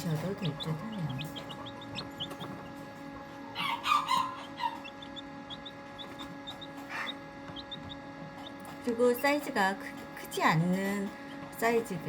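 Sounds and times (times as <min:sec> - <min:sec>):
chicks peeping: 0:00.0 - 0:10.5
faint steady hum: 0:00.0 - 0:12.0.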